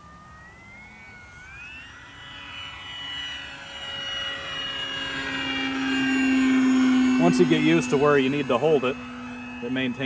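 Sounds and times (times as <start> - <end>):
model plane motor whining: 0.0 - 10.0.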